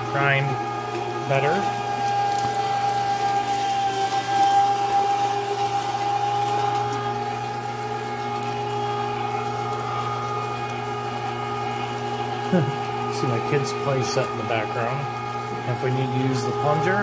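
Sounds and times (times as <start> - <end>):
electric meat grinder humming: 0.0 - 17.0.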